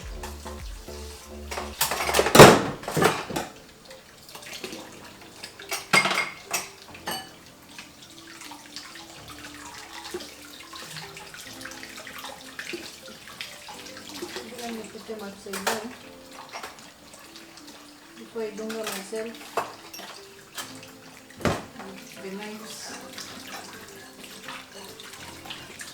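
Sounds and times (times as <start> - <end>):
running tap: 0.0 - 25.9
dishes clattering in sink: 1.5 - 3.6, 4.3 - 8.0, 9.2 - 17.8, 18.4 - 25.9.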